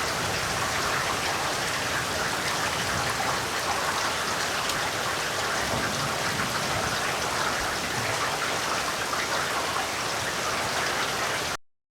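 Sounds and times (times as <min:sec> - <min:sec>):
heavy rain falling: 0:00.0 - 0:11.6.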